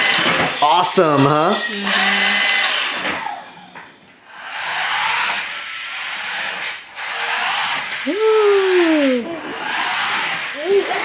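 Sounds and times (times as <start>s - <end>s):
toy car motor whirring: 0.0s - 0.8s, 1.4s - 11.0s.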